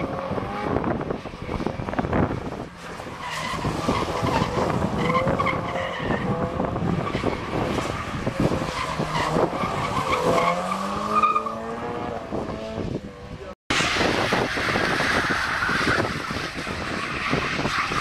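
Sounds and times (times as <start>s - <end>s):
tyres skidding and squealing: 0.0s - 18.0s.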